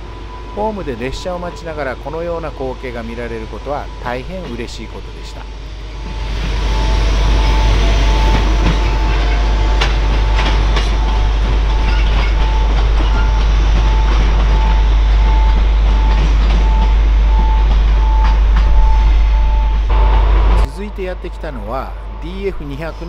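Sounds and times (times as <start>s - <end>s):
freight train rumble: 0.0s - 23.0s
warning tone beeps: 0.5s - 23.0s.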